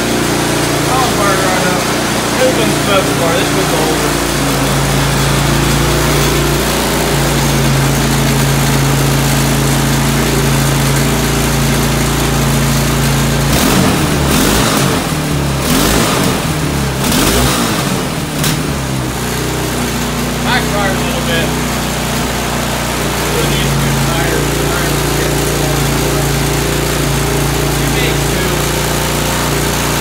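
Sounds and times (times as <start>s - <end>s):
atv engine running: 0.0s - 30.0s
engine pops and backfire: 4.8s - 30.0s.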